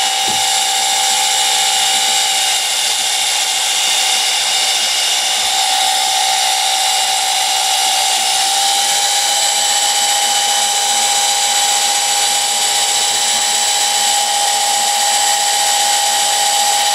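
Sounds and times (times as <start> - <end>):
electric pump whining: 0.0 - 16.9.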